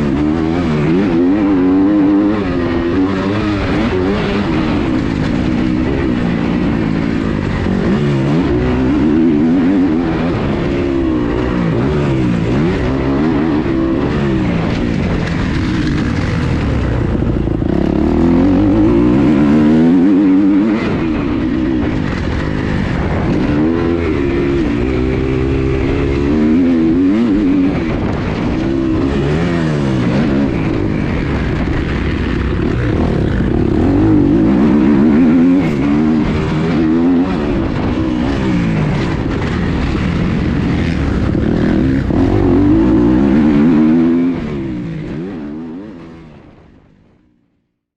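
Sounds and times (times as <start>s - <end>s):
motocross bike engine revving: 0.0s - 46.4s.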